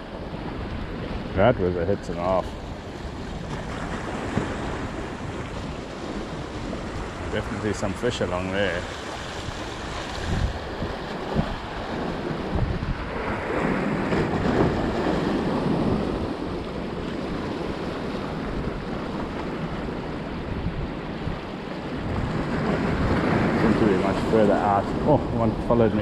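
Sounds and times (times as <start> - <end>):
surf washing: 0.0 - 26.0
wind buffeting microphone: 0.0 - 26.0.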